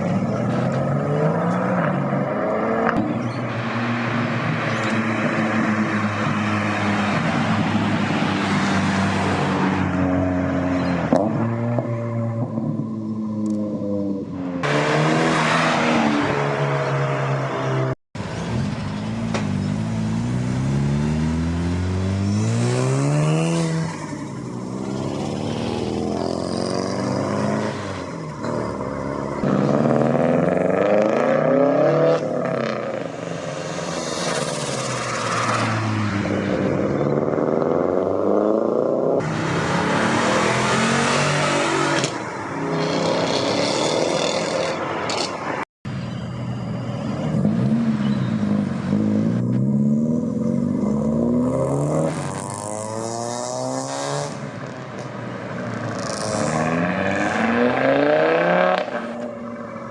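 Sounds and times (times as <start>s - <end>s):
car engines revving and accelerating: 0.0s - 45.7s, 46.6s - 59.9s.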